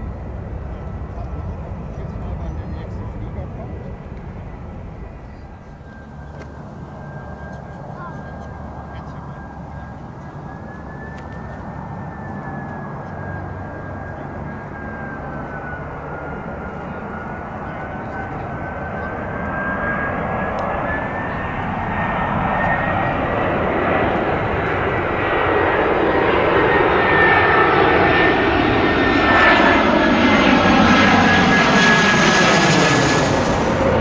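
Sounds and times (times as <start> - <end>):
jet airliner passing overhead: 0.0 - 34.0.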